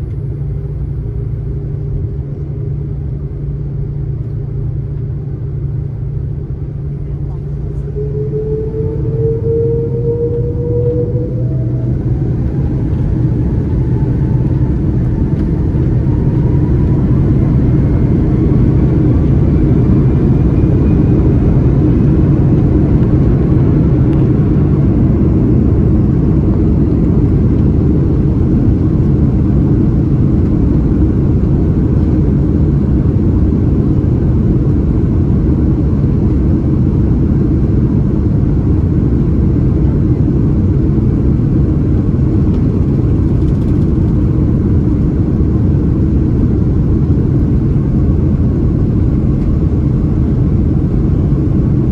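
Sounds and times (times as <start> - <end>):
jet engine whine rising: 0.0 - 51.9
jet engines rumbling in cabin: 0.0 - 51.9.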